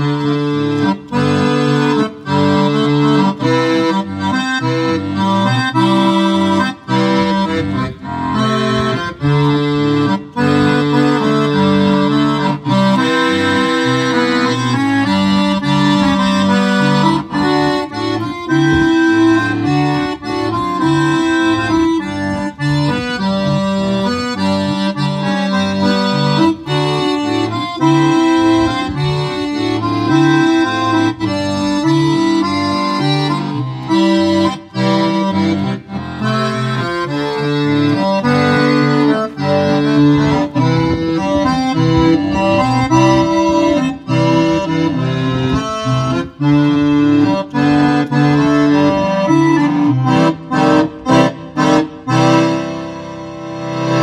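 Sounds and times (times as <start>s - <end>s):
piano accordion playing a tune: 0.0s - 54.0s.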